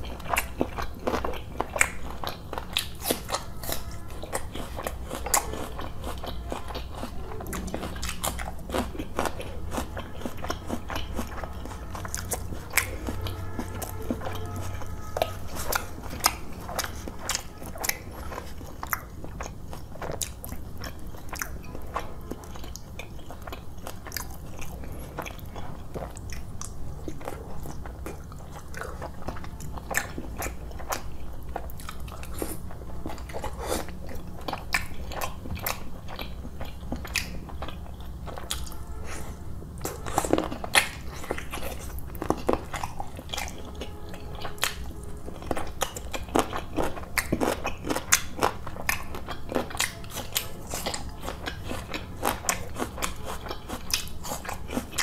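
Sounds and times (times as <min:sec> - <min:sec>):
chewing food: 0:00.0 - 0:55.0
low steady hum: 0:00.0 - 0:55.0.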